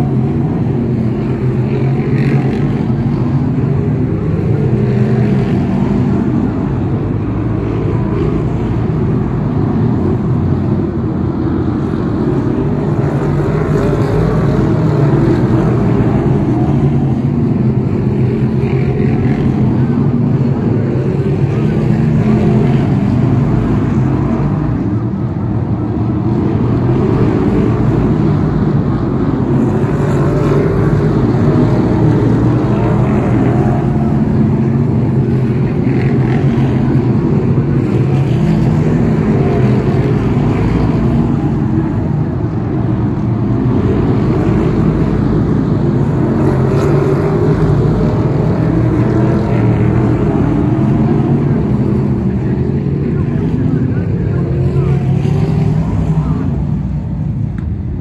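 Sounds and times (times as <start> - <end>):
racing car engines droning: 0.0 - 58.0.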